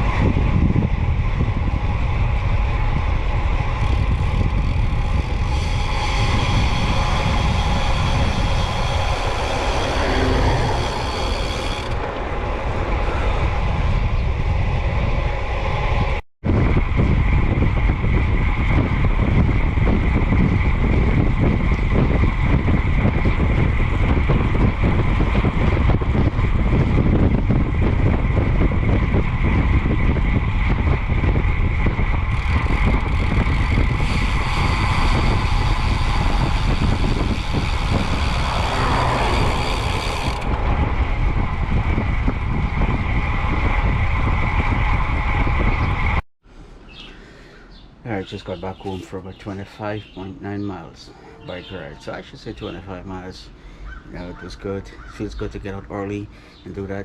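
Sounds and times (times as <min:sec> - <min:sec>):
wind buffeting microphone: 0:00.0 - 0:46.2, 0:46.8 - 0:57.0
road and traffic noise: 0:00.0 - 0:57.0.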